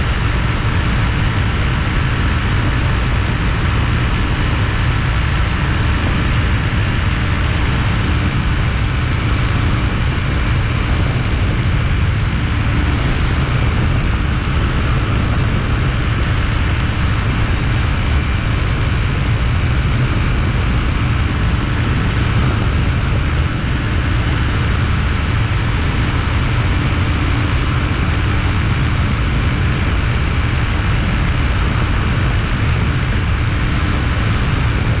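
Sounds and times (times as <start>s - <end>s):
aircraft engine and propeller: 0.0s - 35.0s
wind rushing: 0.0s - 35.0s.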